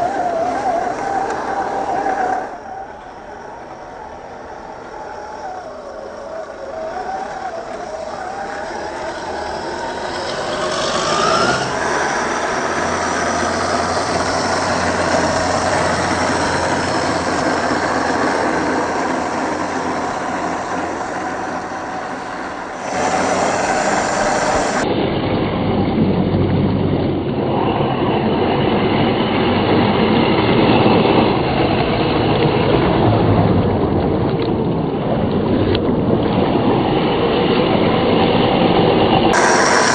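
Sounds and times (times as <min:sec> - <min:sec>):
rising motor whine: 0:00.0 - 0:33.4, 0:36.6 - 0:39.9
rc truck rumble: 0:00.0 - 0:39.9.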